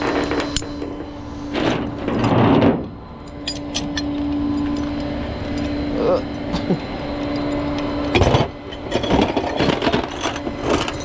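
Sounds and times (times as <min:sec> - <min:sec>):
hydraulics droning: 0:00.0 - 0:11.0.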